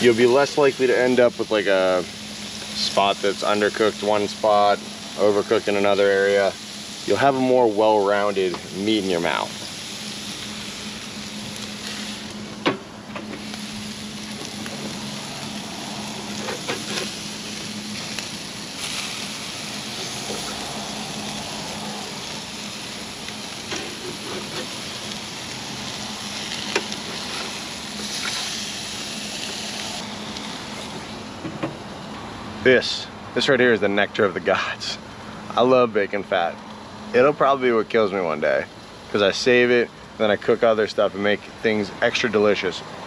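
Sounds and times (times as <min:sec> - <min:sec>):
burgers sizzling: 0:00.0 - 0:43.0.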